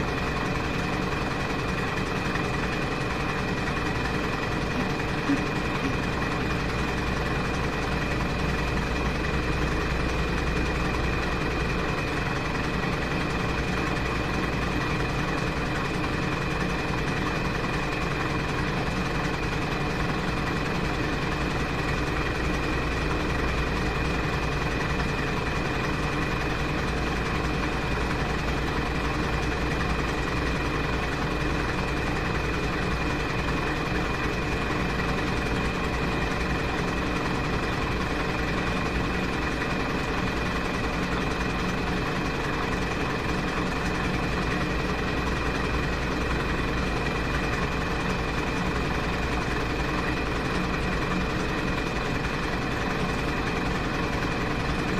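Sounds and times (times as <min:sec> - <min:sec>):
washing machine running: 0:00.0 - 0:54.9.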